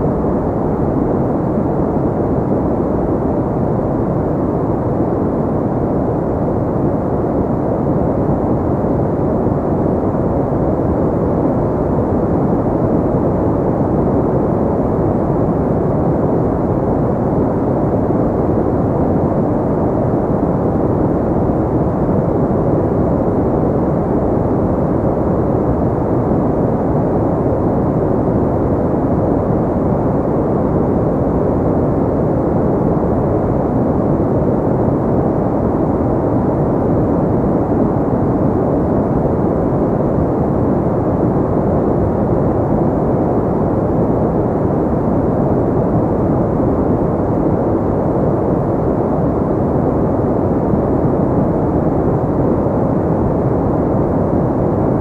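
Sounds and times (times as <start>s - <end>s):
low filtered white noise: 0.0s - 55.0s.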